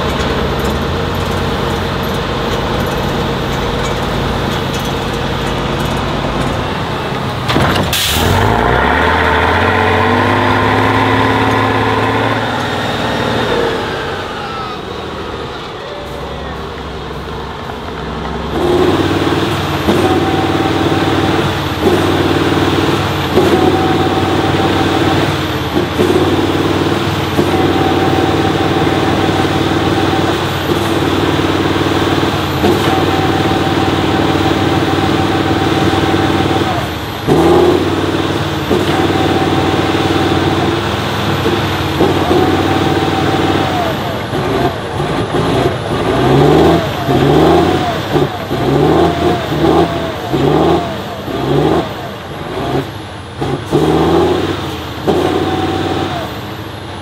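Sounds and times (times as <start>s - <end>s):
truck engine revving: 0.0s - 57.0s
truck engine working under load: 0.0s - 57.0s.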